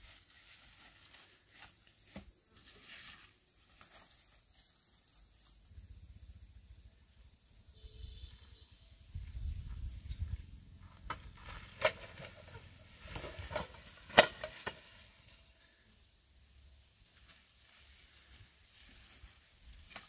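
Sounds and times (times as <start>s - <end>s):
insects chirring: 0.1s - 20.0s.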